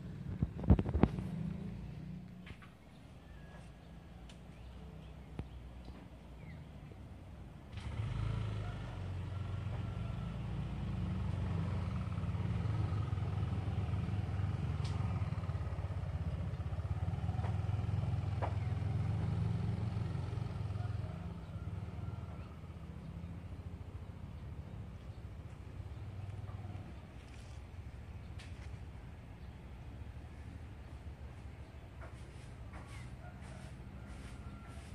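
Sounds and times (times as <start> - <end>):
vehicle engine running: 0.0 - 34.9.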